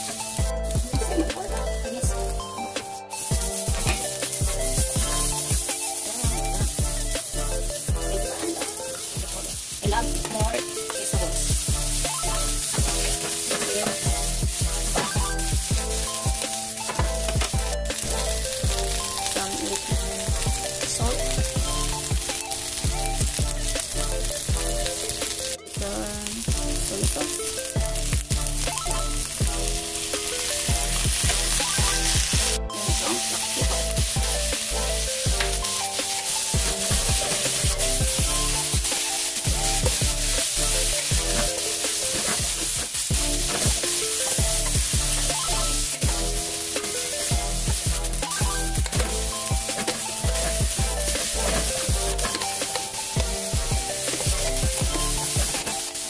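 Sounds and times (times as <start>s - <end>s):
sauce pouring: 0.0s - 25.8s, 26.4s - 56.0s
background music with steady beat: 0.0s - 56.0s
vegetables sizzling in a pan: 0.0s - 56.0s.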